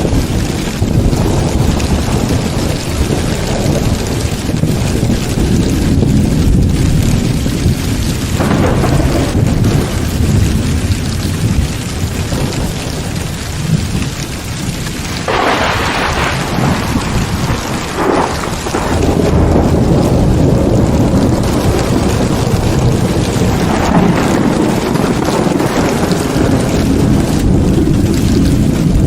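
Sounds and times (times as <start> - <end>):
heavy rain: 0.0 - 29.0
thunder rumbling: 0.0 - 29.0.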